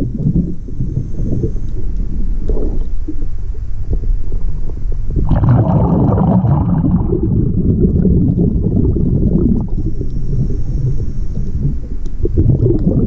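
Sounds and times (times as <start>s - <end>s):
rushing burst of bubbling: 0.0s - 3.2s, 4.6s - 13.0s
muffled underwater rumble: 0.0s - 13.0s.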